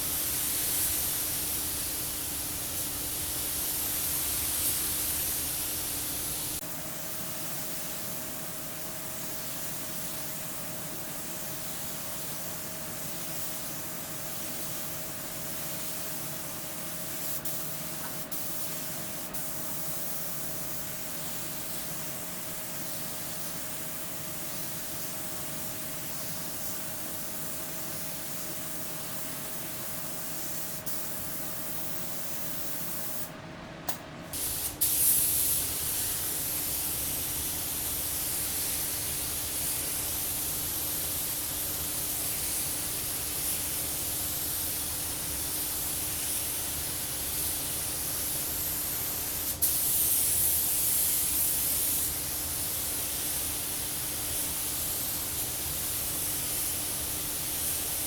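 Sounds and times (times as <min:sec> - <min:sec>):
air spray gun hissing: 0:00.0 - 0:33.3, 0:34.3 - 0:58.0.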